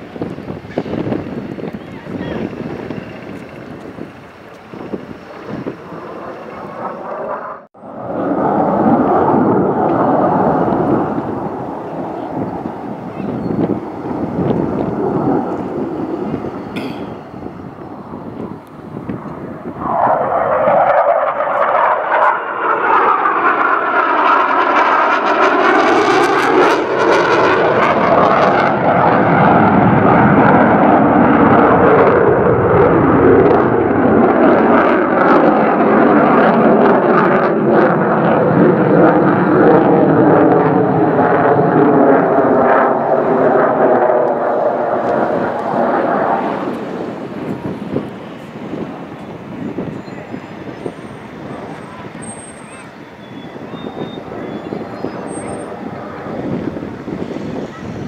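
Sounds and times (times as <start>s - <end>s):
jet passing overhead: 0.0s - 58.0s.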